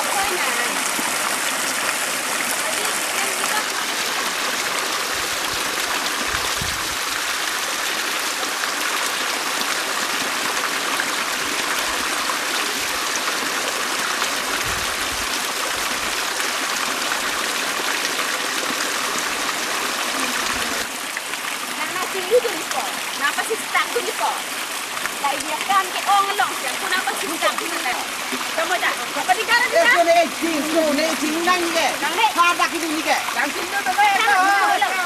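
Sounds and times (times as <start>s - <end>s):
waterfall splashing onto rocks: 0.0s - 35.0s.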